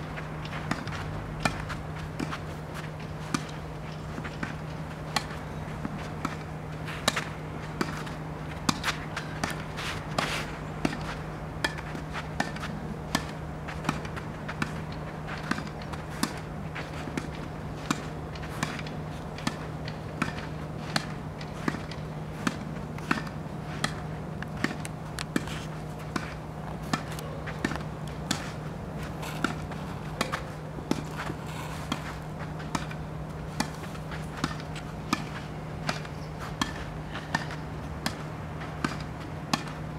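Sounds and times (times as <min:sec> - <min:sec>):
tennis balls bouncing on court: 0:00.0 - 0:39.9
racket hitting tennis ball: 0:00.1 - 0:39.9.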